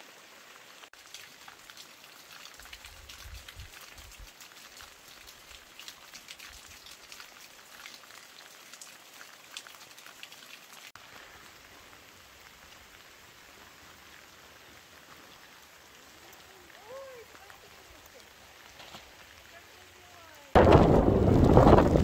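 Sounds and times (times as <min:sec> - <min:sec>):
light rain falling: 0:00.0 - 0:22.0.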